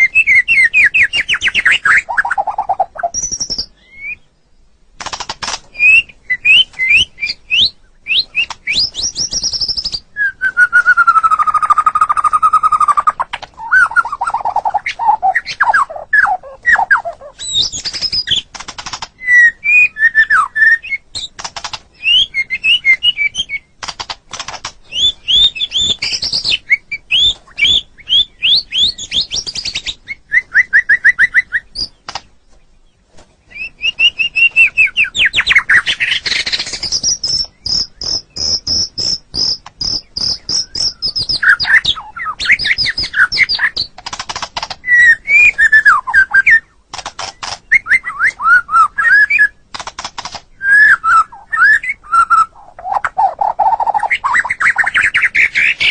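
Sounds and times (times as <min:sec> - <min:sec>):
descending bird whistle: 0:00.0 - 0:04.3, 0:05.8 - 0:18.5, 0:19.2 - 0:21.2, 0:22.0 - 0:23.7, 0:24.9 - 0:32.0, 0:33.5 - 0:43.9, 0:44.8 - 0:46.8, 0:47.4 - 0:49.6, 0:50.6 - 0:55.9.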